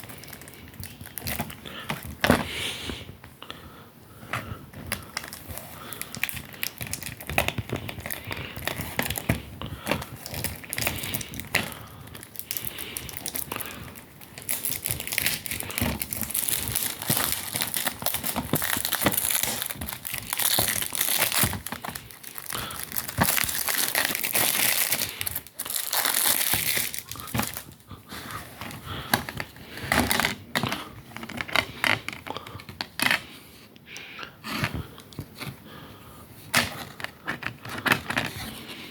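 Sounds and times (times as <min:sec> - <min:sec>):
plastic wrap crinkling: 0:00.0 - 0:02.9, 0:04.4 - 0:33.2.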